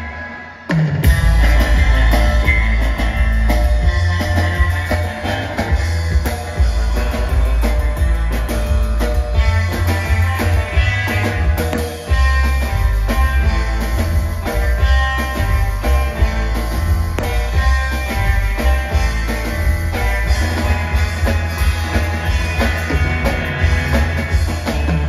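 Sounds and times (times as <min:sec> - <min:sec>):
surf rock band playing: 0:00.0 - 0:25.0.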